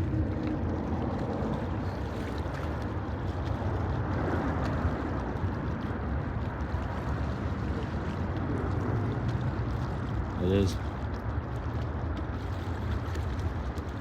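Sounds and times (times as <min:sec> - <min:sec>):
distant jet engines rumbling: 0:00.0 - 0:14.0
wind on microphone: 0:00.0 - 0:14.0.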